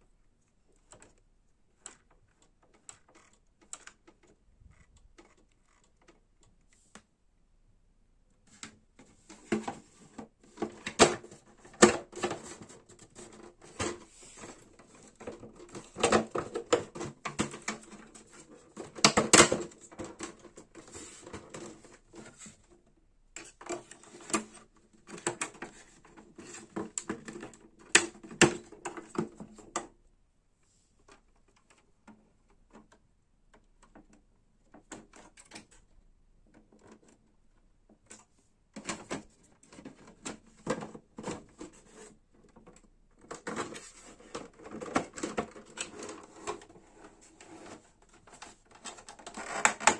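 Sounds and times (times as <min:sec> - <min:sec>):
plastic printer parts clicking: 0:00.6 - 0:07.1, 0:08.5 - 0:22.7, 0:23.4 - 0:30.0, 0:31.0 - 0:49.9.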